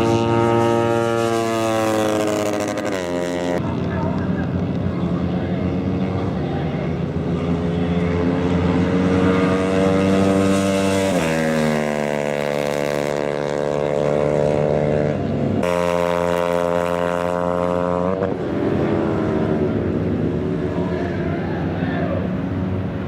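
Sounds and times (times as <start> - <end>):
racing motorcycle engine accelerating: 0.0 - 23.0.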